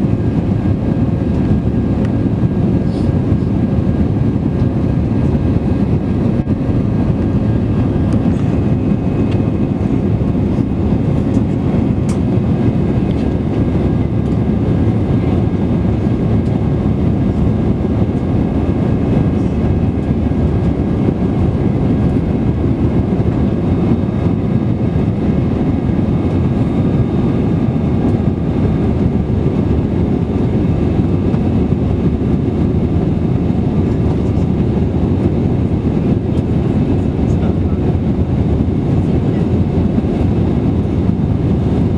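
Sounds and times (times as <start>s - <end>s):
airplane cabin roar: 0.0s - 41.9s.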